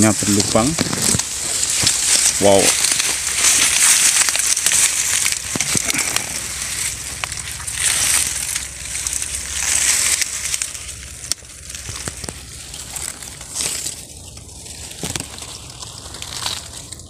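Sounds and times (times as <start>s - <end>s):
leaves and bark scraping: 0.0s - 17.0s.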